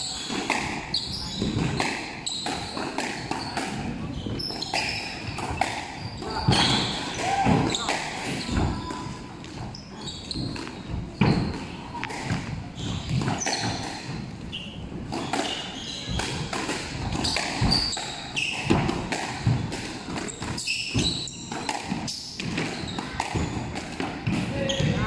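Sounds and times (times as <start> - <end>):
shoes squeaking on floor: 0.0 - 23.8, 24.5 - 25.0
squash ball hitting rackets and walls: 0.0 - 25.0.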